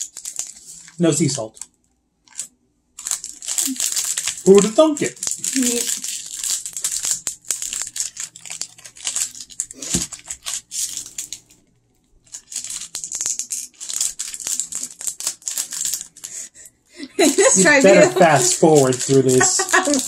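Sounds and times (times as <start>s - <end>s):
candy wrapper crinkling: 0.0s - 20.0s.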